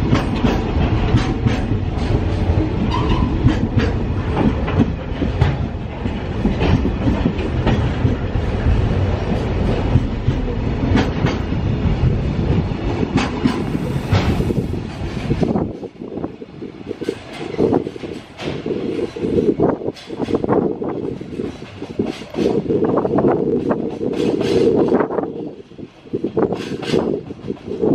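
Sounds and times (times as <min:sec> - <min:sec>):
wheels clicking over rail joints: 0:00.0 - 0:16.0, 0:16.8 - 0:27.9
freight train rumbling: 0:00.0 - 0:27.9.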